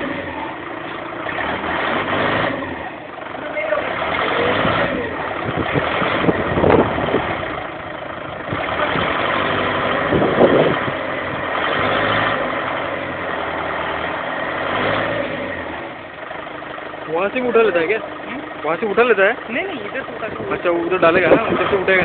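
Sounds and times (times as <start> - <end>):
forklift engine running: 0.0 - 22.0.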